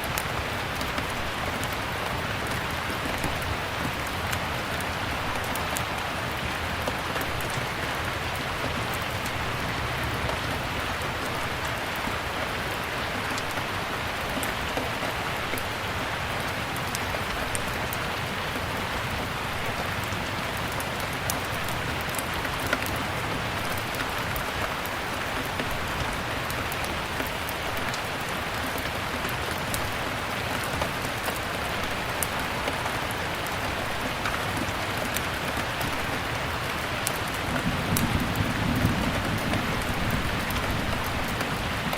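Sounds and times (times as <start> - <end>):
steady rain hissing: 0.0 - 41.9.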